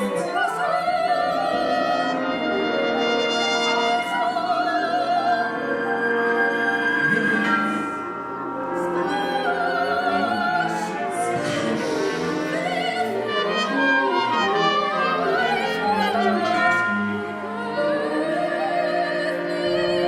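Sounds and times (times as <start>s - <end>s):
soprano singing with vibrato: 0.0s - 2.7s, 3.7s - 20.0s
chamber ensemble playing: 0.0s - 20.0s.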